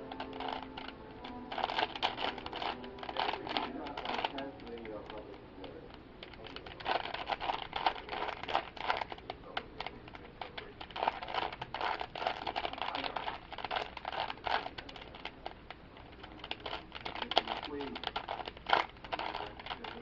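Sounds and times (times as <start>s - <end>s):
puzzle cube plastic clicks: 0.0s - 5.3s, 5.9s - 20.0s.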